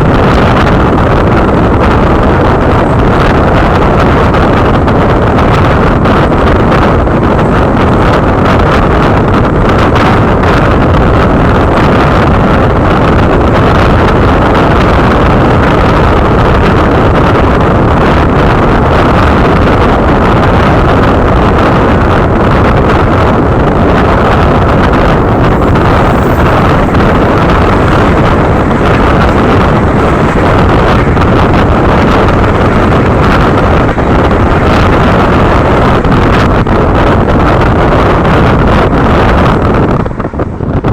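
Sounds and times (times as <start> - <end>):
moving train rushing: 0.0 - 40.9
wind buffeting microphone: 0.0 - 40.9.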